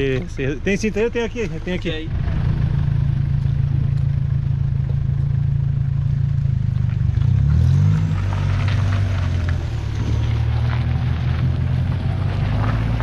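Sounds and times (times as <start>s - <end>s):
suv engine running: 0.0s - 13.0s.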